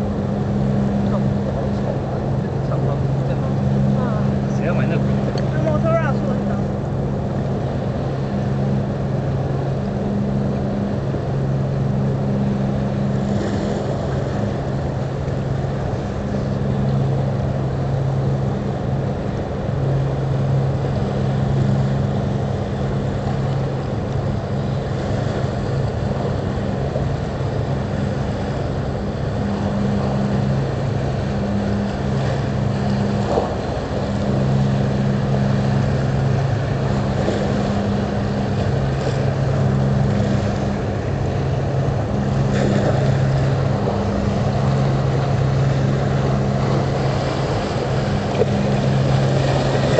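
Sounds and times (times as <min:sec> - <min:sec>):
ship engines droning: 0:00.0 - 0:49.9
wind and water rumbling: 0:00.0 - 0:49.9.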